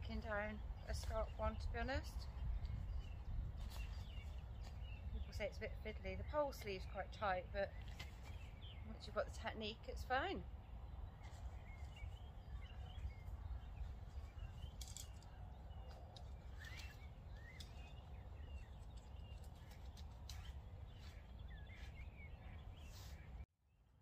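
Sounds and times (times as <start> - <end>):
wind rumble on microphone: 0.0 - 23.4
small birds chirping: 0.0 - 23.5.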